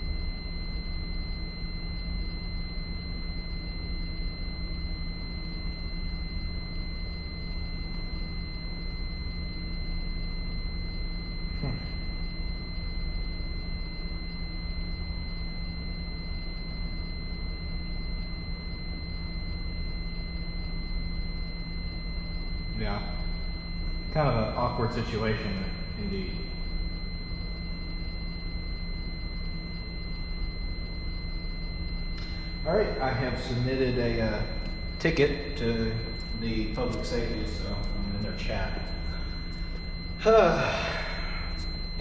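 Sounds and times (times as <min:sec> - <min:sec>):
high-pitched alarm tone: 0:00.0 - 0:42.0
low hum: 0:00.0 - 0:42.0.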